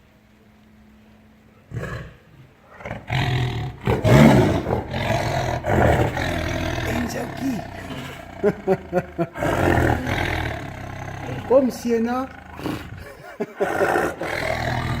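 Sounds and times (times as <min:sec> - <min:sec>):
tiger roaring: 0:01.6 - 0:15.0.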